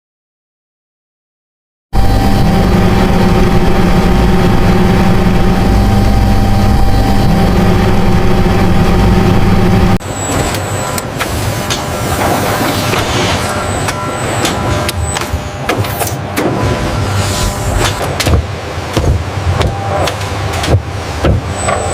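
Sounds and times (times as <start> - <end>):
factory machinery drone: 2.0 - 21.9
thin steady whine: 2.0 - 21.9.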